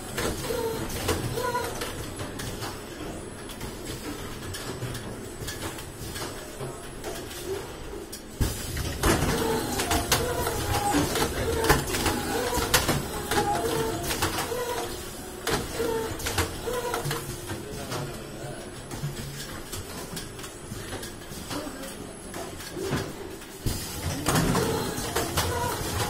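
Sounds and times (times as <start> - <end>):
screen printing machine running: 0.0 - 26.0.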